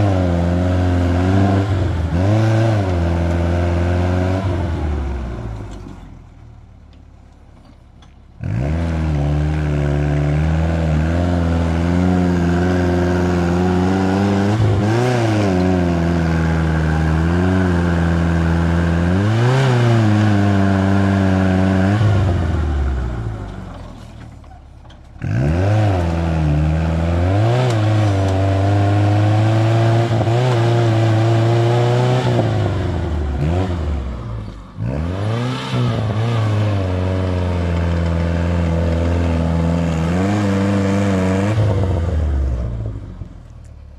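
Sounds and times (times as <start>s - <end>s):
engine revving hard: 0.0s - 5.8s, 8.4s - 23.7s, 25.2s - 43.3s.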